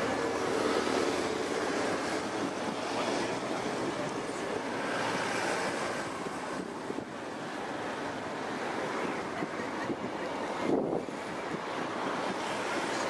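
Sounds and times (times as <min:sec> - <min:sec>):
floodwater rushing against wall: 0:00.0 - 0:13.0
wind on microphone: 0:00.0 - 0:13.0.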